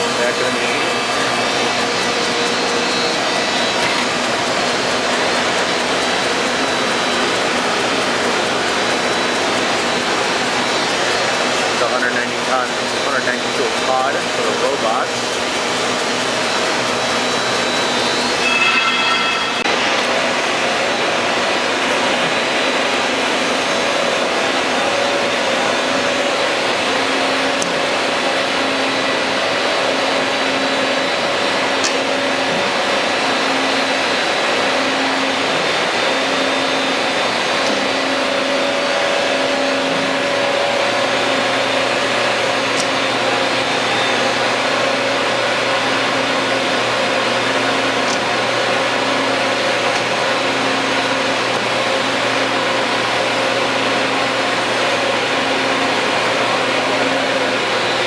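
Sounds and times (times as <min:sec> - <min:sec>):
deep machine hum: 0:00.0 - 0:58.0.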